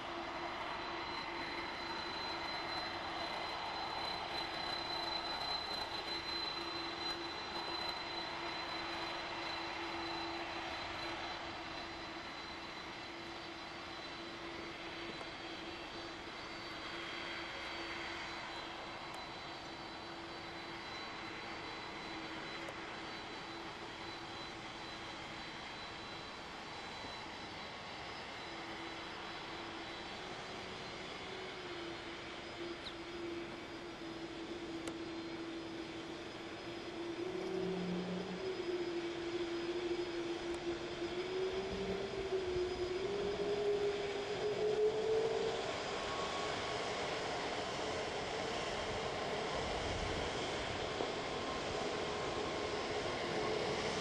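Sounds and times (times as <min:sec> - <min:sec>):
jet engines rumbling with whine: 0:00.0 - 0:54.0.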